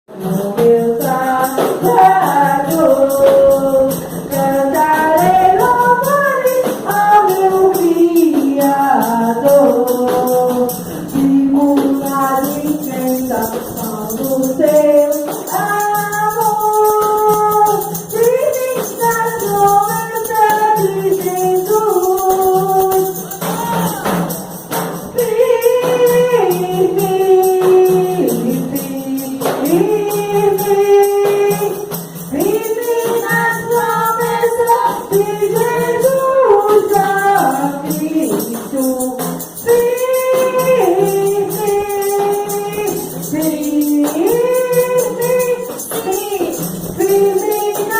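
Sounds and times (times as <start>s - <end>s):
tambourine jingling: 0.1s - 47.9s
worship song singing: 0.1s - 47.9s.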